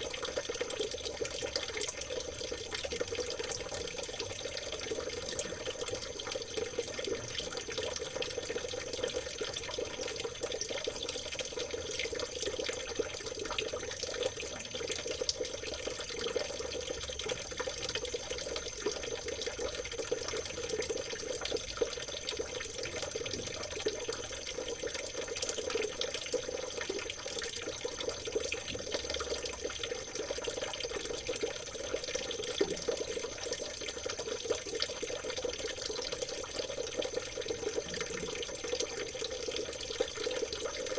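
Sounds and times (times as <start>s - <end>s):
stream trickling: 0.0s - 40.9s.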